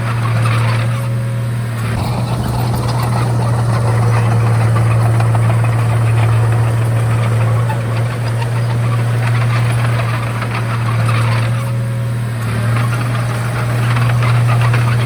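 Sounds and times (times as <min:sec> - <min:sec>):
bulldozer diesel engine running: 0:01.4 - 0:15.0.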